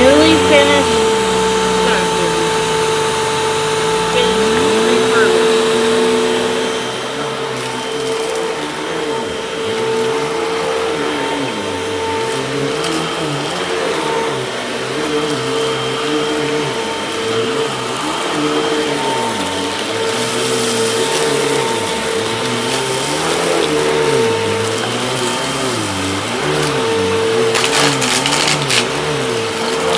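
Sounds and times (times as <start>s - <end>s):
vacuum cleaner motor whine: 0.0s - 29.9s.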